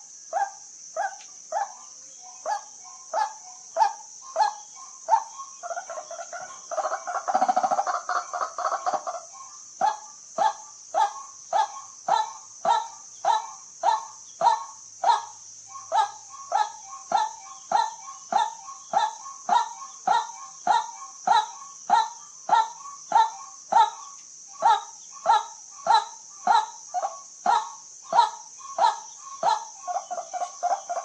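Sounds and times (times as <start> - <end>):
steady high hiss: 0.0 - 31.0
waterhen calling: 1.0 - 31.0.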